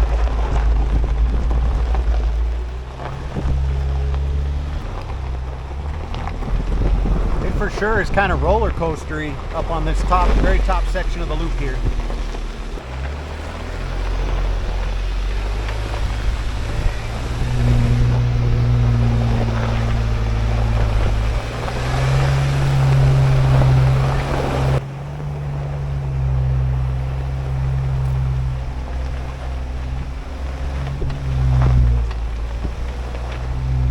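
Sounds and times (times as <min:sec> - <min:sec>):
car engine under load: 0:00.0 - 0:33.9
road and wind noise: 0:00.0 - 0:33.9.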